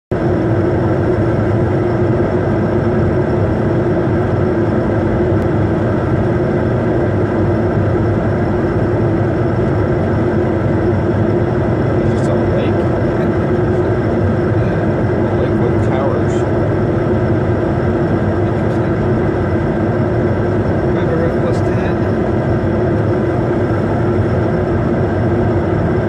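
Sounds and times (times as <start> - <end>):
airflow rush in jet cabin: 0.1 - 26.0
steady hum: 0.1 - 26.0
turbofan engines: 0.1 - 26.0.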